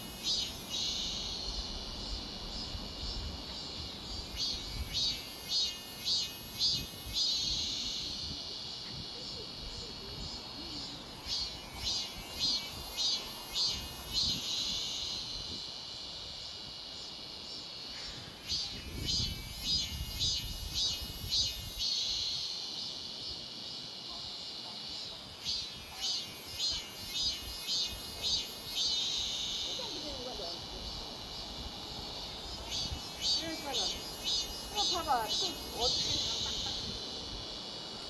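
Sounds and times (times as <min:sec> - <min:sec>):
cicada singing: 0:00.0 - 0:38.0.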